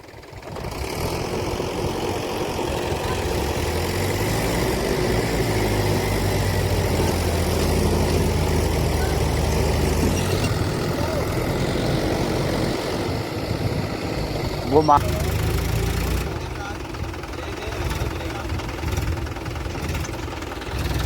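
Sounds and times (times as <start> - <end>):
tractor diesel engine labouring: 0.0 - 21.0.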